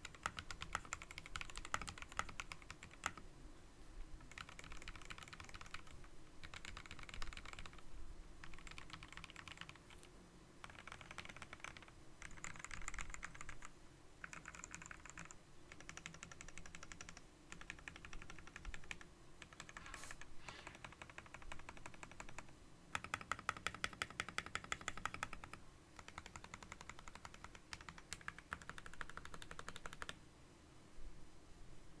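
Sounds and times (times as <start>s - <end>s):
rapid keyboard typing: 0.0s - 3.2s, 4.2s - 7.8s, 8.4s - 30.2s.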